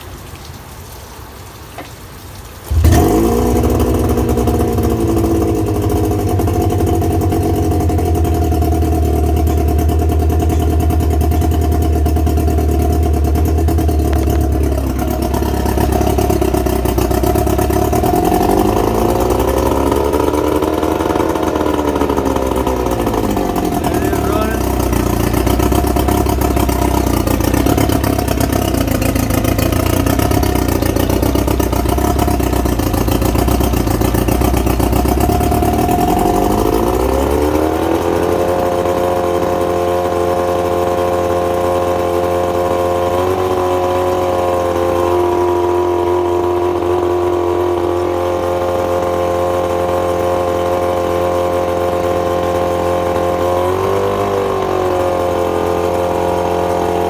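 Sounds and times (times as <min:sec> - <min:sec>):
outboard motor running: 0:02.6 - 0:57.0.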